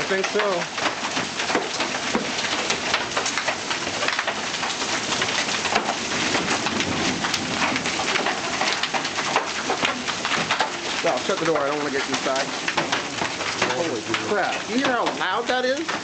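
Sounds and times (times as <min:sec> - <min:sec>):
hailstones clattering: 0:00.0 - 0:16.0.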